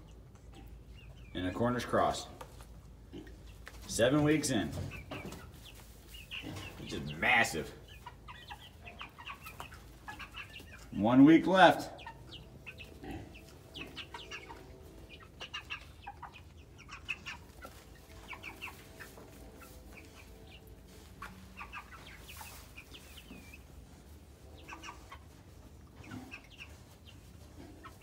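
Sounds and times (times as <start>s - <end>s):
chickens peeping and chirping: 0.0s - 28.0s.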